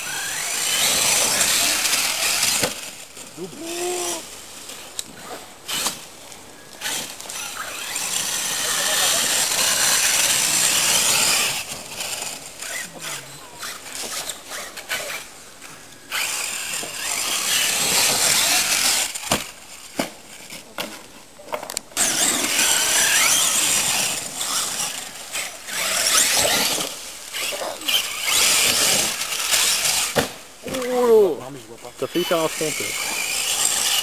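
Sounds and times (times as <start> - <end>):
rc truck motor whine: 0.0 - 20.6, 22.0 - 31.2, 32.1 - 34.0
tyres scrabbling on dirt: 0.0 - 34.0.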